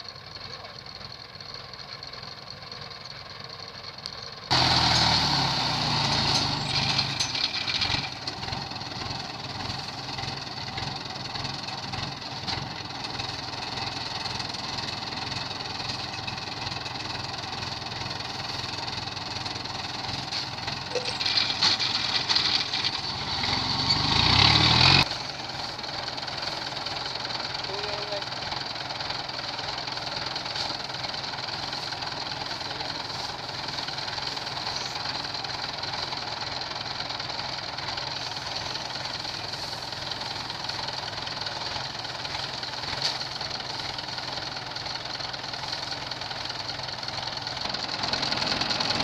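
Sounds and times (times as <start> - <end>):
combine harvester engine running: 0.0 - 49.0.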